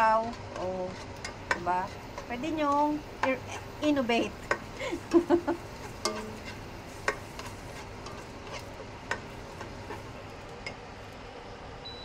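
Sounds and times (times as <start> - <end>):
onions sizzling in oil: 0.0 - 11.5.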